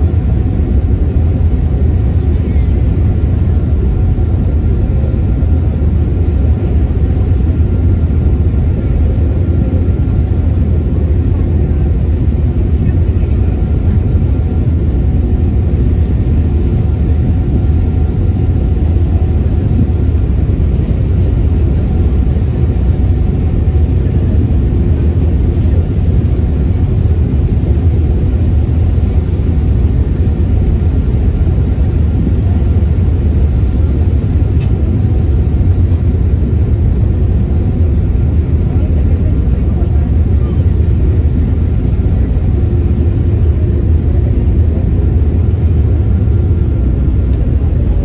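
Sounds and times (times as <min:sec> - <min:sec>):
ferry engine rumbling: 0:00.0 - 0:48.0.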